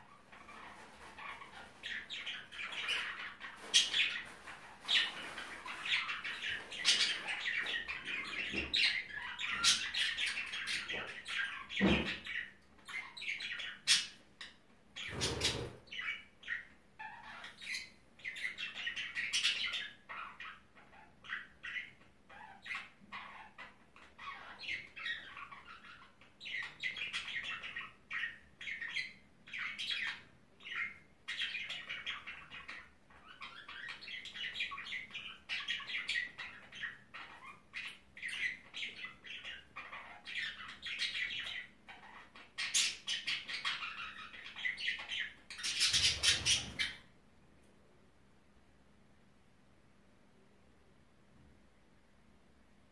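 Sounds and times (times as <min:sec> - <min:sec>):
budgerigars chattering: 0:00.4 - 0:14.2, 0:15.0 - 0:47.0.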